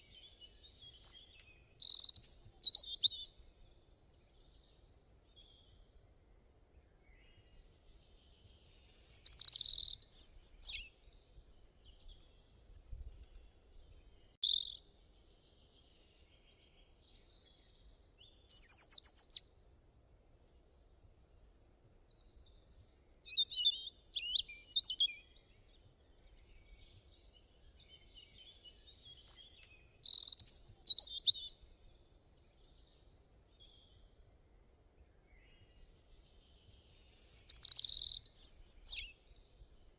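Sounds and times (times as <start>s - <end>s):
small birds singing and chirping: 0.0s - 6.0s, 6.8s - 19.6s, 21.7s - 39.9s.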